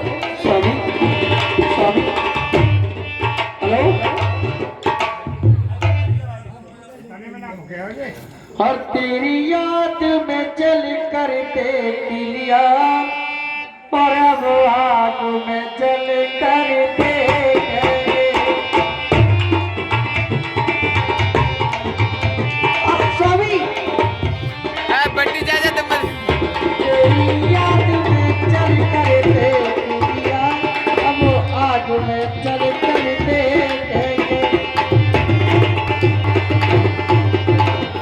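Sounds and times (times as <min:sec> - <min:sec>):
tabla playing a rhythm: 0:00.0 - 0:07.0, 0:08.6 - 0:38.0.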